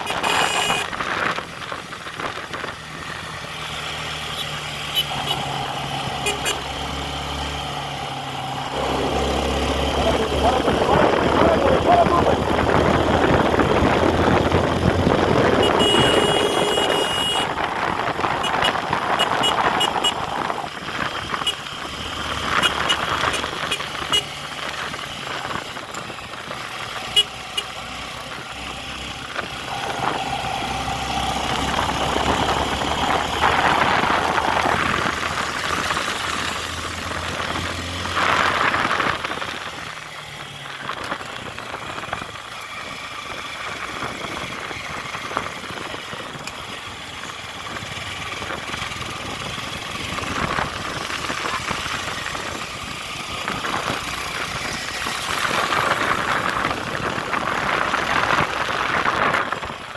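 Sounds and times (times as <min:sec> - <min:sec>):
vehicle engines running: 0:00.0 - 0:59.9.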